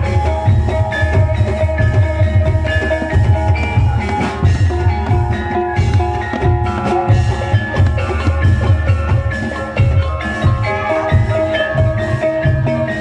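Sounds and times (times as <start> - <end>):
steady low drum beat: 0.0 - 13.0
struck metal melody notes: 0.0 - 13.0.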